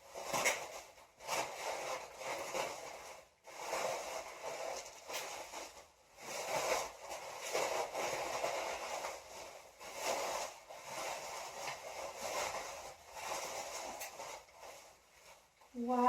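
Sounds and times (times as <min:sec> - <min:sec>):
packing material crinkling: 0:00.0 - 0:16.0.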